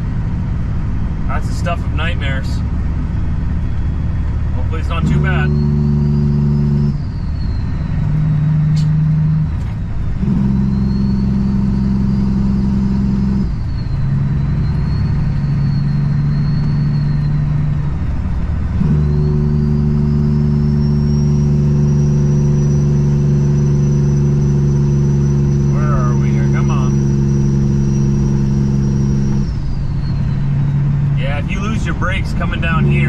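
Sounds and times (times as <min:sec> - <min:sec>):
diesel truck engine humming: 0:00.0 - 0:33.0.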